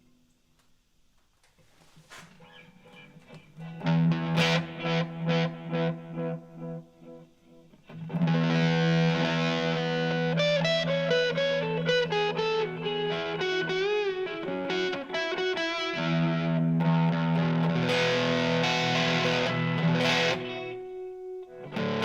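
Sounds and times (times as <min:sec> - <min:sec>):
overdriven electric guitar: 0:02.4 - 0:22.0.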